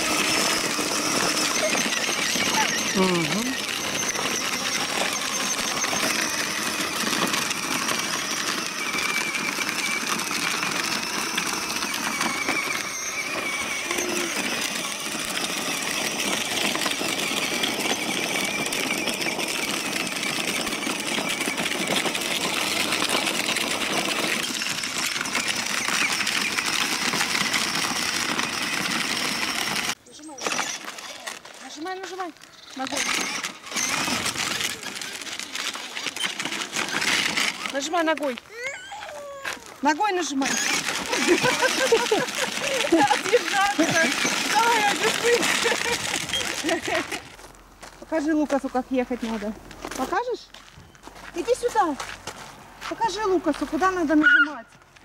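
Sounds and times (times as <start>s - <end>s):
electric toy motor whirring: 0.0s - 47.5s, 53.0s - 54.6s
plastic wheels rolling on gravel: 0.0s - 55.0s.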